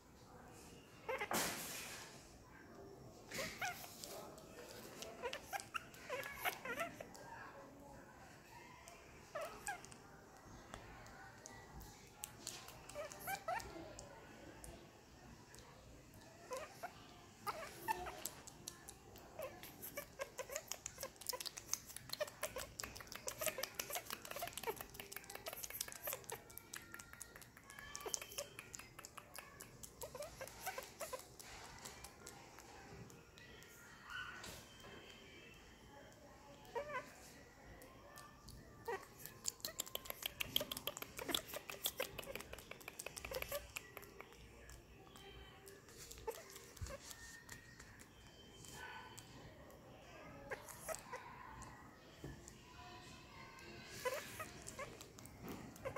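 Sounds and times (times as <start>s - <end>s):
baby monkey squeaks and whimpers: 0.9s - 1.7s, 3.3s - 7.6s, 8.4s - 14.0s, 16.2s - 35.2s, 36.6s - 49.4s, 50.4s - 51.8s, 53.4s - 55.9s.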